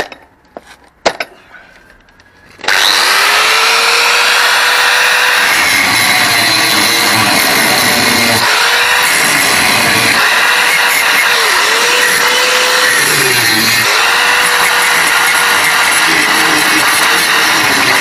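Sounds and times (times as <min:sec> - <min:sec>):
angle grinder grinding steel: 0:02.6 - 0:18.0.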